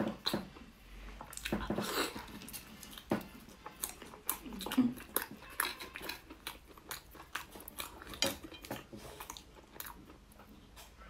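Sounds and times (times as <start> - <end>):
wet chewing: 0.0 - 10.7.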